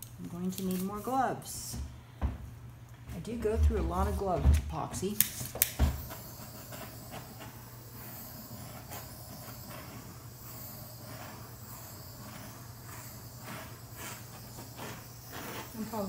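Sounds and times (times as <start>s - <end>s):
handheld torch flame hissing: 0.0s - 16.0s.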